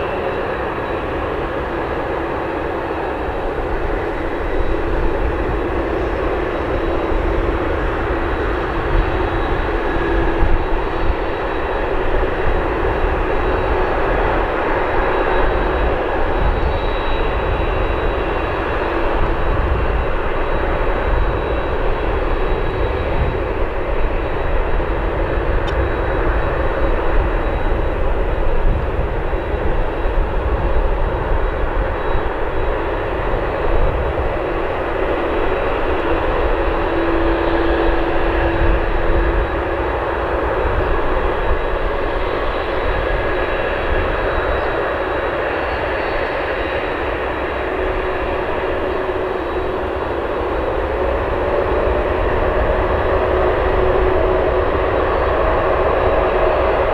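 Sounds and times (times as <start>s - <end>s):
jet airliner engines: 0.0s - 56.9s.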